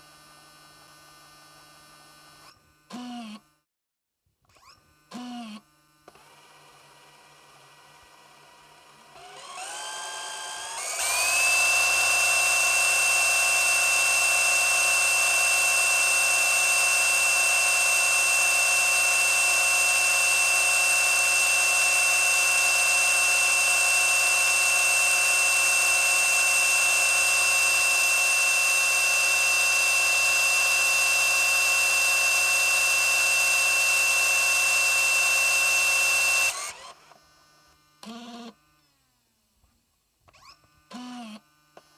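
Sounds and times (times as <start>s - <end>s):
camcorder tape motor whining: 2.4s - 3.6s, 4.5s - 39.0s, 40.2s - 41.9s.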